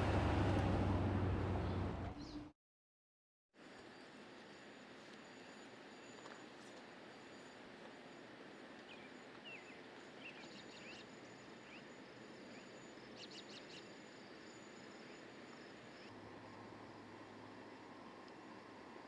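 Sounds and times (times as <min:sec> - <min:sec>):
faint steady hum: 0:03.6 - 0:19.0.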